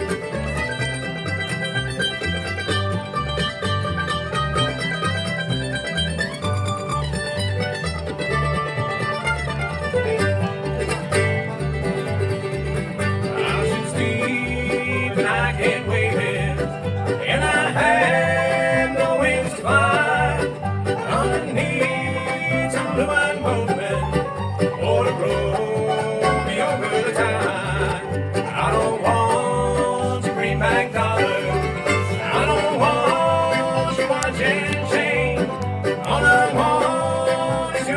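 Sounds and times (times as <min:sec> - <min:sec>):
bluegrass band playing: 0:00.0 - 0:37.9
plucked upright bass: 0:00.0 - 0:37.9.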